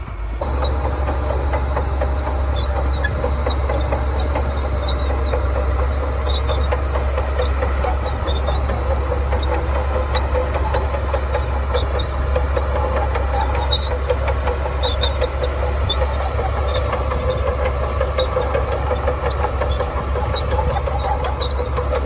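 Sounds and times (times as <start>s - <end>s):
bulldozer diesel engine running: 0.0s - 22.0s
fast clatter of small knocks: 0.4s - 22.0s.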